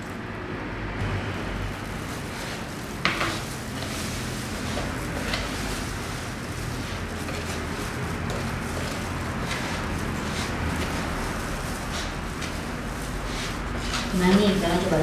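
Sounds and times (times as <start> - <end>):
background hum and hiss: 0.0 - 15.0
hands squishing dough: 1.7 - 15.0.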